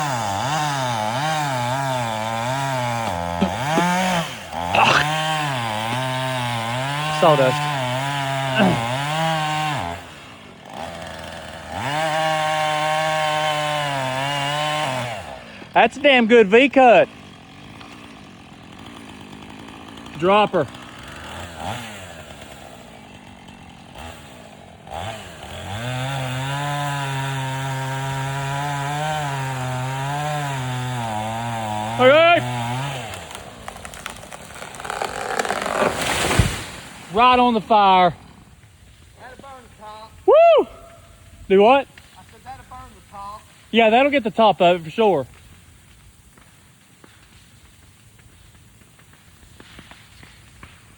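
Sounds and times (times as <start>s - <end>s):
chainsaw cutting into tree: 0.0s - 50.9s.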